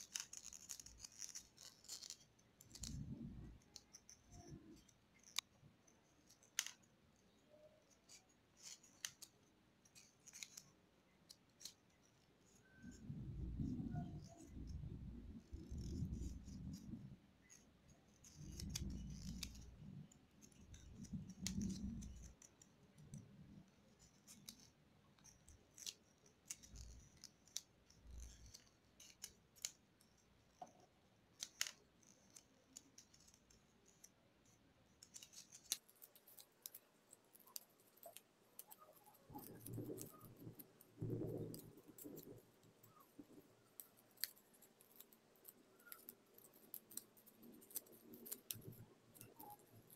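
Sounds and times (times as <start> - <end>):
paper crinkling and crackling: 0.0 - 49.9.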